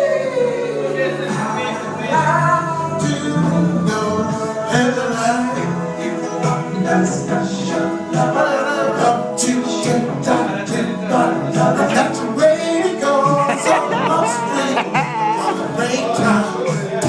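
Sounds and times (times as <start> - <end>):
people singing: 0.0 - 17.0.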